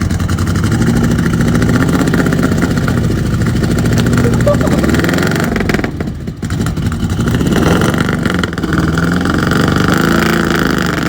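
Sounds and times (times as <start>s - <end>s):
car engine revving hard: 0.5s - 11.0s.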